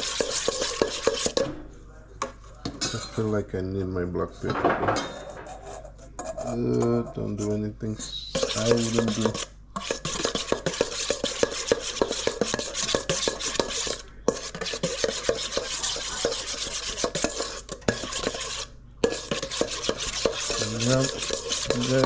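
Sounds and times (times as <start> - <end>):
utensil clinking and scraping bowl: 0.0 - 1.6, 2.2 - 3.4, 4.3 - 22.0.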